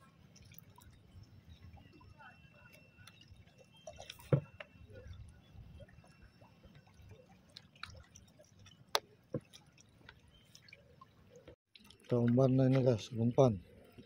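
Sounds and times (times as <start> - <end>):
sea water dripping and lapping: 0.0 - 14.0.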